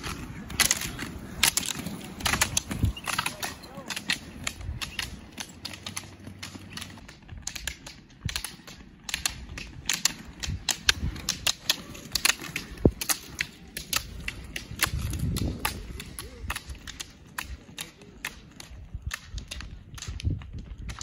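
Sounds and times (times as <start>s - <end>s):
pole tips clicking on asphalt: 0.0s - 21.0s.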